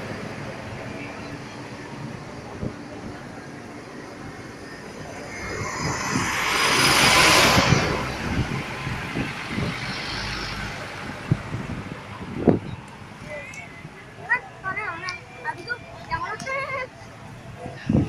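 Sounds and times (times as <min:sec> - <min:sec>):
bus passing by: 0:00.0 - 0:18.0.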